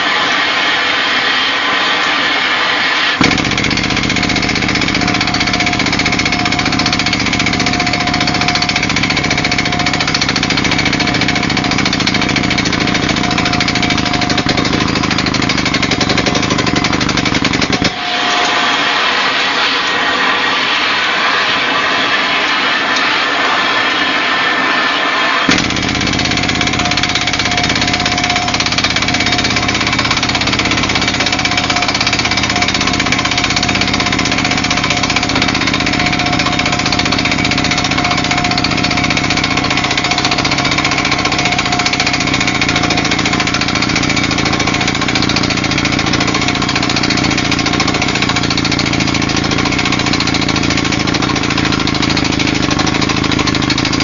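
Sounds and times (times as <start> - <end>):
drill rig drone: 0.0 - 54.0.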